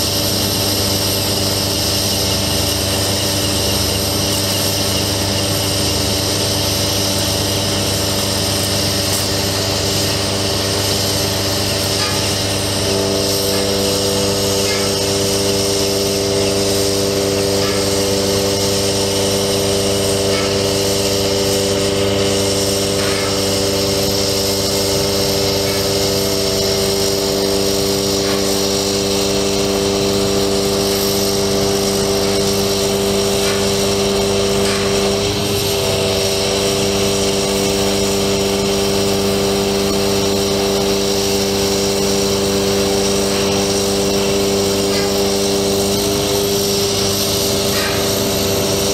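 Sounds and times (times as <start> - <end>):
truck engine driving hydraulic pump: 0.0 - 48.9.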